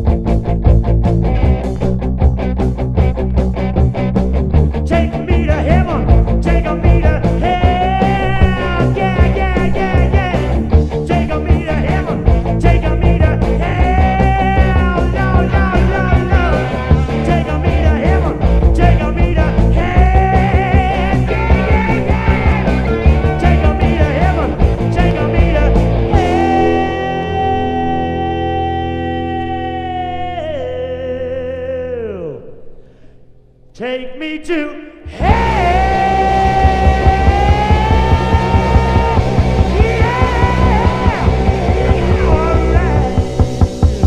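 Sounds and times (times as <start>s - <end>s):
hard rock band playing: 0.0s - 29.1s, 35.1s - 44.0s.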